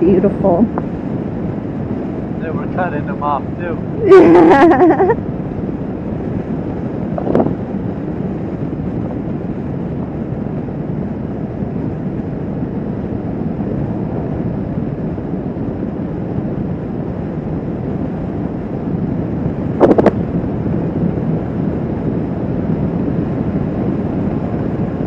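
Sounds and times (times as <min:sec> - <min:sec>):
road and wind noise: 0:00.0 - 0:25.0.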